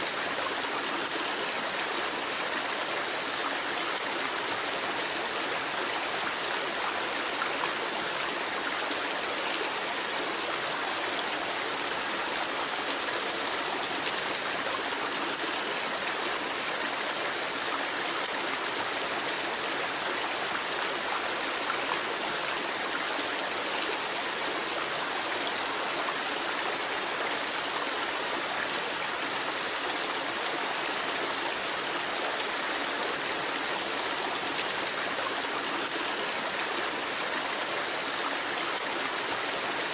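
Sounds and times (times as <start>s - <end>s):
creek babbling: 0.0s - 39.9s.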